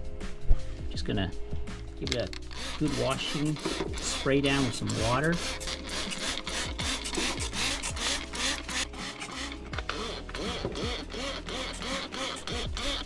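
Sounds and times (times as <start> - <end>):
spray bottle squirting: 2.4 - 13.0.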